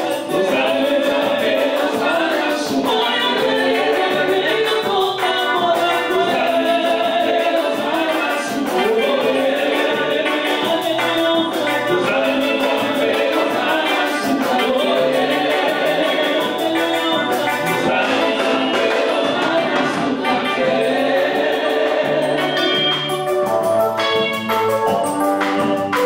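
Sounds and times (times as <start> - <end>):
women singing gospel: 0.0 - 23.0
instrumental backing: 0.0 - 26.0.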